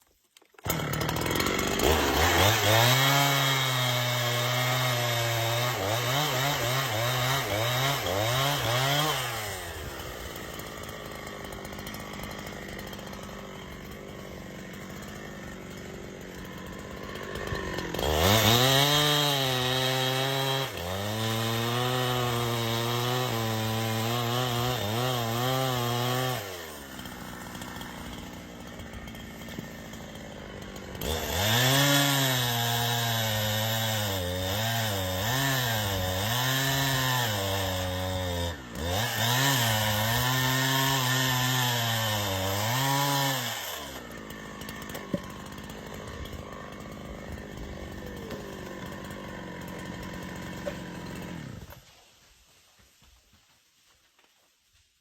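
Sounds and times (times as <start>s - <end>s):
chainsaw cutting log: 0.0s - 53.4s.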